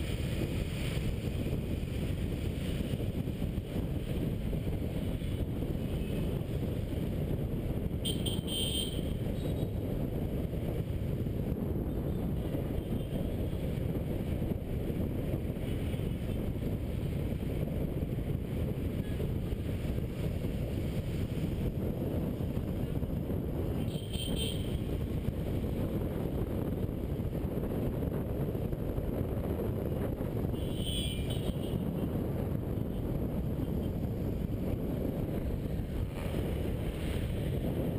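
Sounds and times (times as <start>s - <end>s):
wind and road noise: 0.0s - 37.9s.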